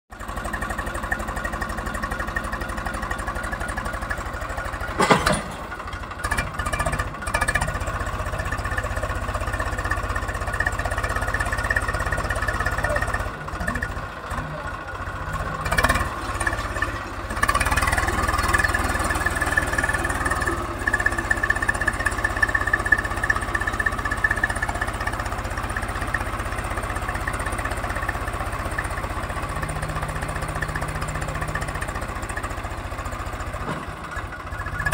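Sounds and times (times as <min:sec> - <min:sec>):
tractor diesel engine straining: 0:00.1 - 0:34.9.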